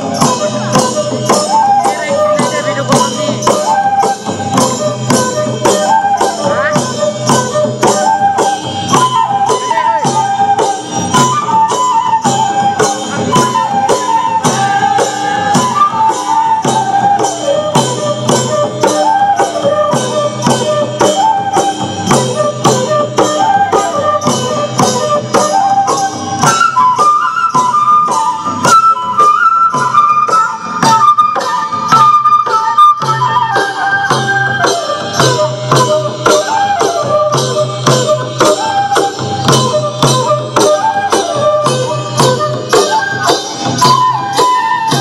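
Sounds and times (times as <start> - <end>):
flute melody: 0.0 - 45.0
steady percussion beat: 0.0 - 45.0.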